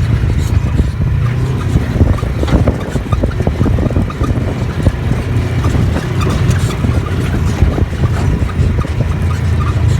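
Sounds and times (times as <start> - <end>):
knocks and rattles: 0.0 - 9.9
vehicle rumbling: 0.0 - 9.9.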